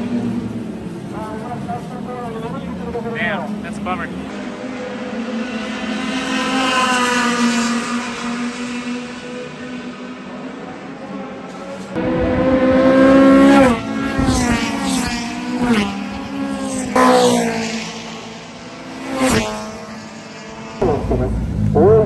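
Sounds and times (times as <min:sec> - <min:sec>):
race car engines accelerating: 0:00.0 - 0:22.0
race car passing close: 0:00.0 - 0:22.0.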